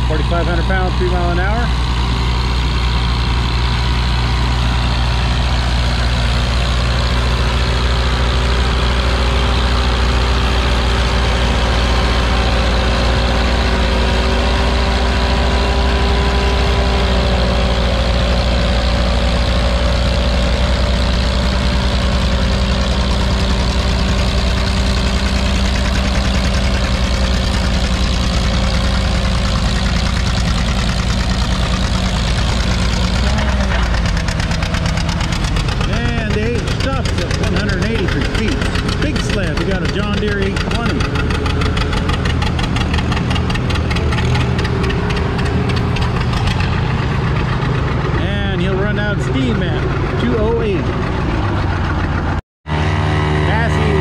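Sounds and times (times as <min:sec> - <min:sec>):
tractor engine under heavy load: 0:00.0 - 0:54.0.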